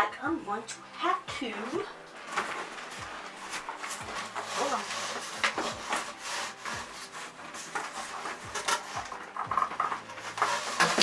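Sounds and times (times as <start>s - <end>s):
cardboard box scraping and rustling: 1.9s - 11.0s.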